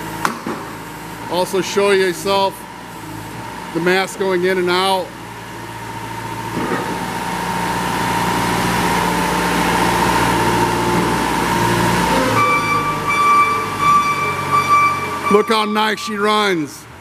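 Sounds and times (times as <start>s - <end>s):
diesel engine under load: 0.0s - 17.0s
hydraulic whine: 0.0s - 17.0s.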